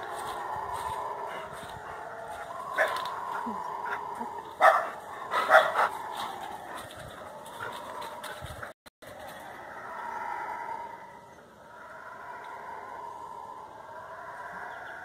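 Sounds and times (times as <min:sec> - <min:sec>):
howler monkeys calling: 0:00.0 - 0:15.0.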